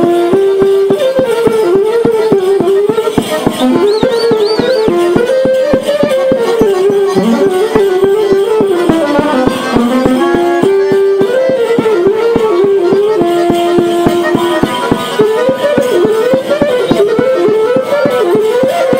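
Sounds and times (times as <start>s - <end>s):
folk dance music: 0.0s - 18.9s.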